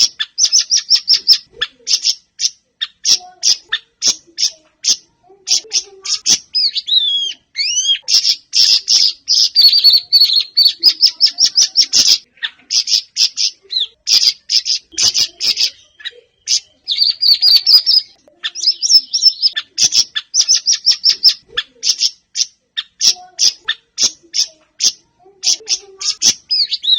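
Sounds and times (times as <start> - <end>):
songbird chirping and trilling: 0.0 - 26.9.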